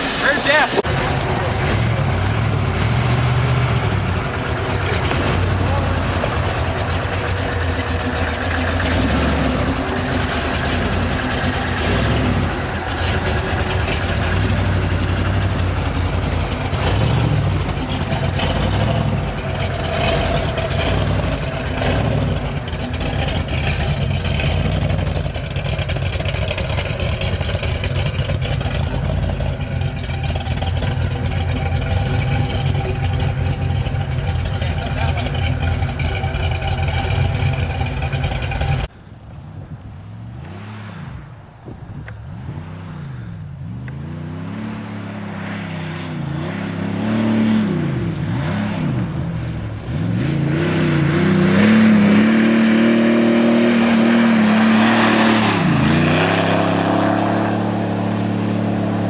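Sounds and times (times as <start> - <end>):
buggy engine revving: 0.0 - 38.9, 39.6 - 59.0.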